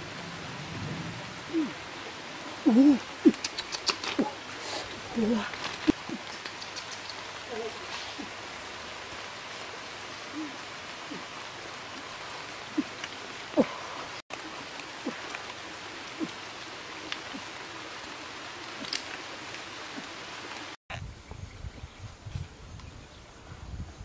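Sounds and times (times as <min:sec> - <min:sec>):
water rushing: 0:00.0 - 0:20.8.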